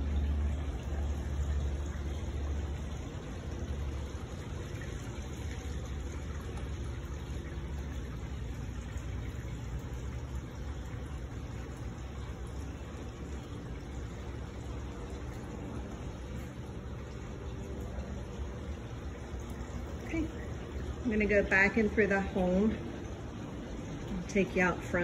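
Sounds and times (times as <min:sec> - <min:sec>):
water splashing into pool: 0:00.0 - 0:25.0.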